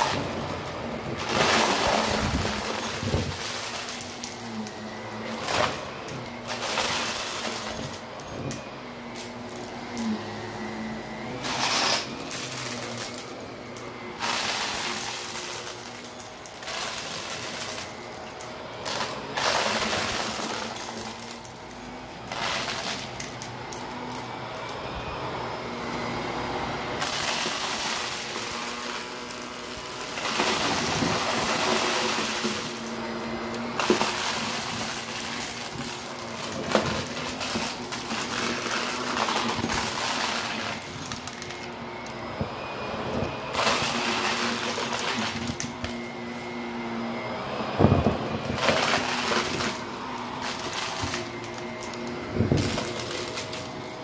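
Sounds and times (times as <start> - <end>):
debris rattling up vacuum intake: 0.0 - 24.9, 25.6 - 54.0
vacuum cleaner running: 0.0 - 54.0.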